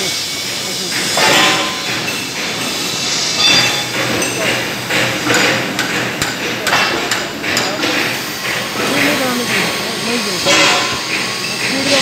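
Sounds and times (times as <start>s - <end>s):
sharp metallic knocks: 1.2s - 9.7s, 10.4s - 12.0s.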